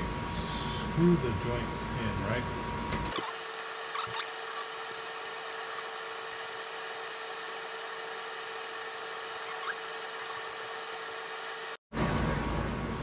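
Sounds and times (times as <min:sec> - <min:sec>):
steady mid-pitched hum: 0:00.0 - 0:11.8.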